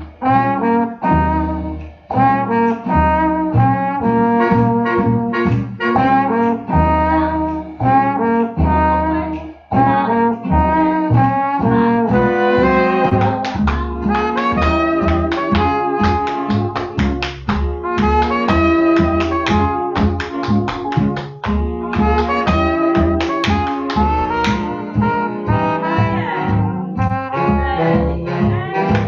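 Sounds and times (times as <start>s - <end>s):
swing jazz band playing: 0.0s - 29.0s.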